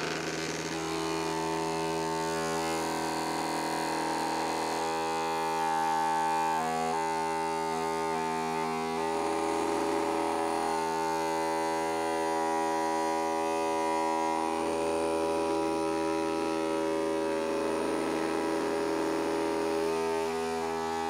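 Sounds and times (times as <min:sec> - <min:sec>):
vacuum motor humming: 0:00.0 - 0:21.0.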